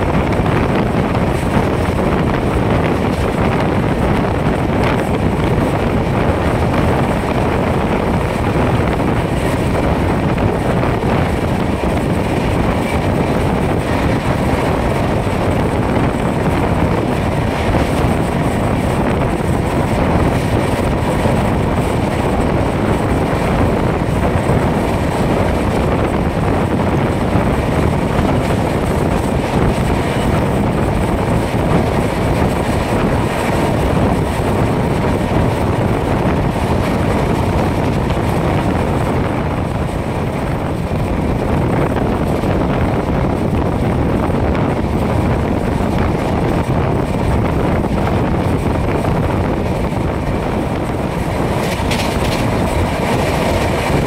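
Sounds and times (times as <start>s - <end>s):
train wheels rumbling on rails: 0.0s - 54.0s
wind rushing over microphone: 0.0s - 54.0s.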